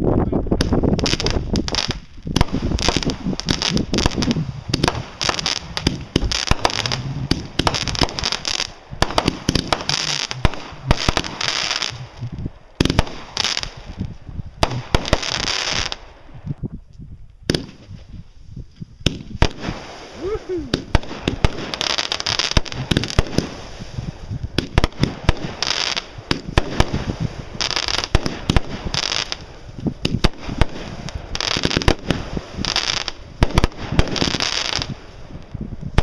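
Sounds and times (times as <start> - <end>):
fireworks banging and crackling: 0.6 - 16.2, 17.5 - 18.1, 19.0 - 36.0.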